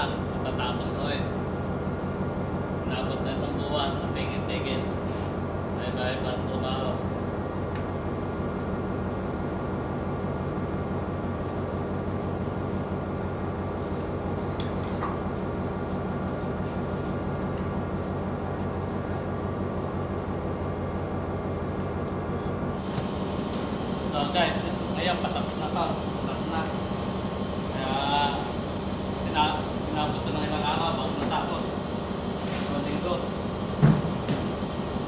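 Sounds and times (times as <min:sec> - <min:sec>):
ship machinery drone: 0:00.0 - 0:35.0.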